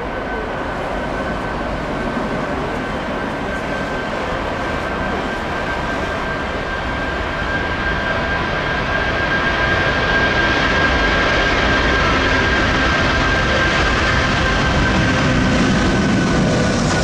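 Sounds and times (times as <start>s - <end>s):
jet engines roaring at take-off: 0.0s - 17.0s.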